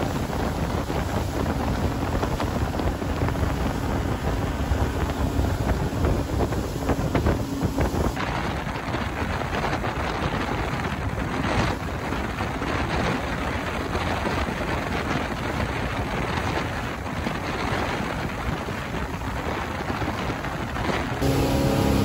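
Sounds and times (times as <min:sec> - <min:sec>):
water rushing by boat: 0:00.0 - 0:22.0
wind on microphone: 0:00.0 - 0:22.0.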